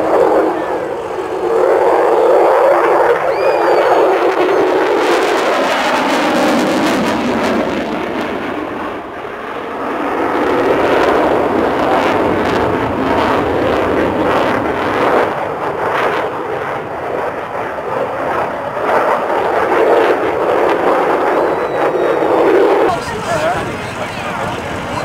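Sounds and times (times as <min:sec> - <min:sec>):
fighter jet roaring past: 0:00.0 - 0:25.0.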